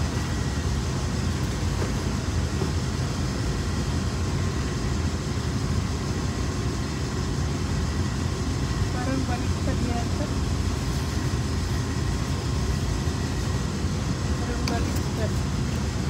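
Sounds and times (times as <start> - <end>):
faint constant hum: 0.0 - 16.0
fan low rumble: 0.0 - 16.0.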